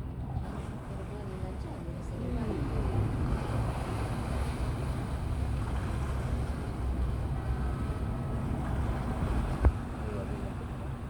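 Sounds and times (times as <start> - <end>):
boat engines rumbling: 0.0 - 11.0
wind buffeting microphone: 0.0 - 11.0.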